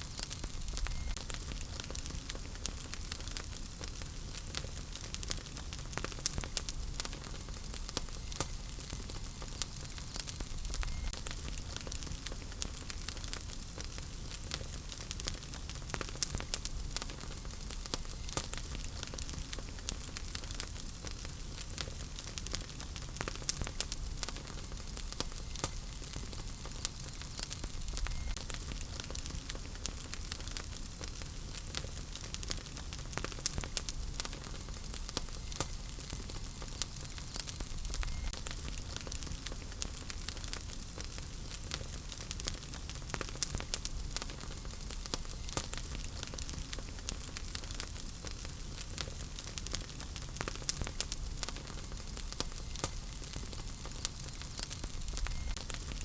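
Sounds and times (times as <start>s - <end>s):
fire crackles and pops: 0.0s - 56.0s
wood fire rumbling and hissing: 0.0s - 56.0s.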